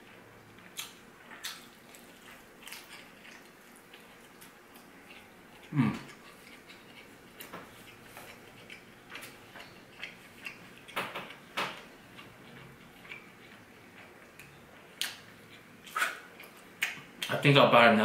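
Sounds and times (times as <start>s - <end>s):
person chewing food: 0.0s - 17.3s.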